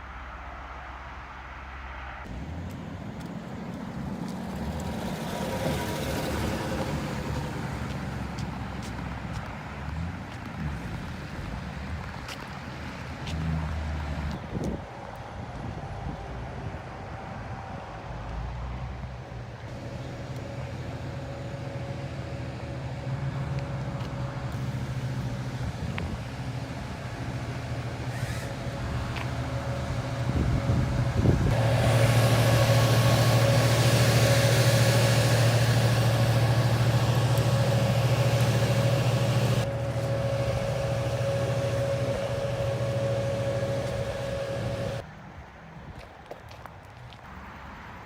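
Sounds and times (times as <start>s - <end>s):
large engine running: 2.2s - 45.1s.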